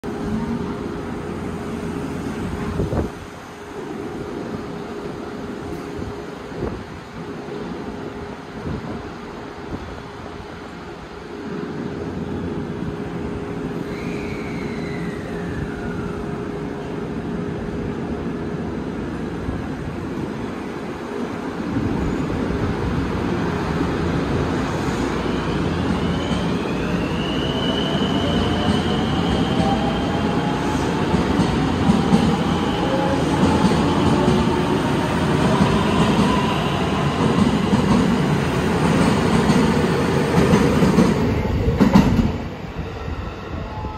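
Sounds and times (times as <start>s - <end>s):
electric train humming: 0.0s - 43.9s
train rumbling: 0.0s - 43.9s.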